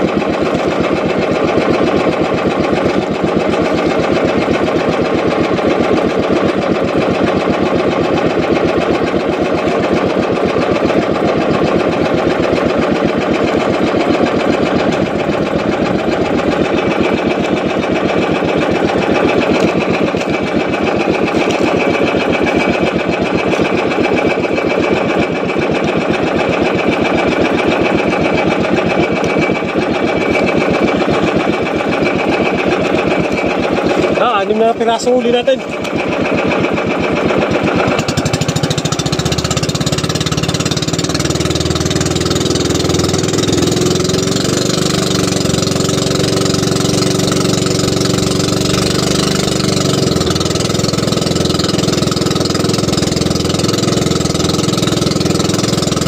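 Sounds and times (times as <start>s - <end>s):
small boat engine putter: 0.0s - 56.0s.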